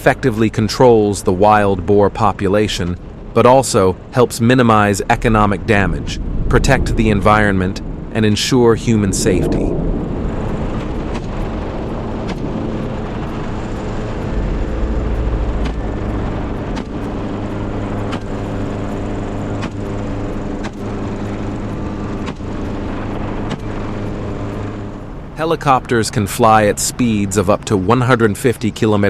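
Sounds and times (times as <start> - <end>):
helicopter engine drone: 0.0 - 29.0.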